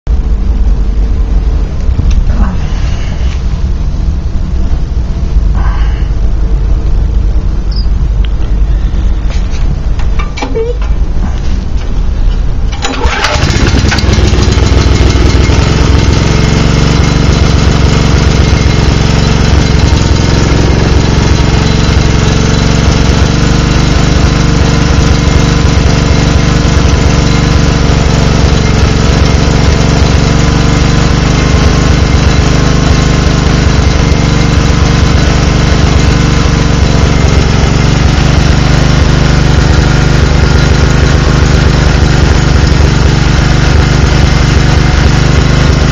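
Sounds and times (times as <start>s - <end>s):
generator engine running unevenly: 0.1s - 45.9s.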